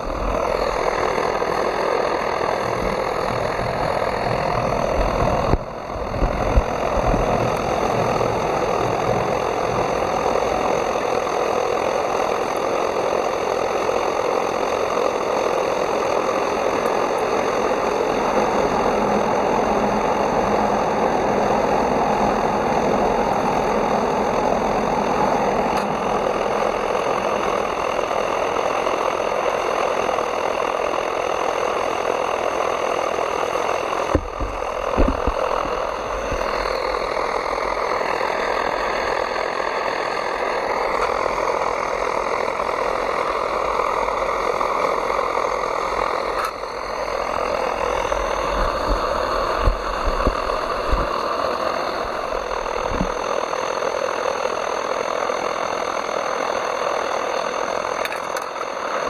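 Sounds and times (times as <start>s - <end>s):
gasoline burner roaring: 0.0s - 59.0s.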